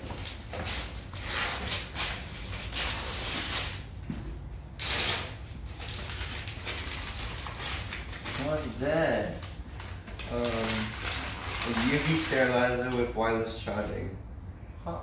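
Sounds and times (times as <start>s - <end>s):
wrapping paper rustling and tearing: 0.0s - 3.9s, 4.8s - 13.2s.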